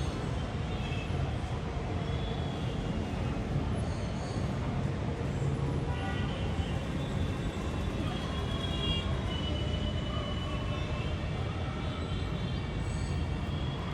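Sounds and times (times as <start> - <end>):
city traffic rumble: 0.0 - 13.9.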